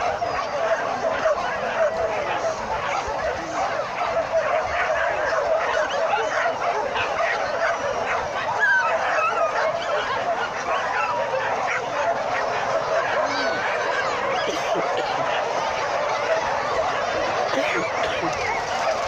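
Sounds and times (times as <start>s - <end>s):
many dogs barking and yelping: 0.0s - 19.0s.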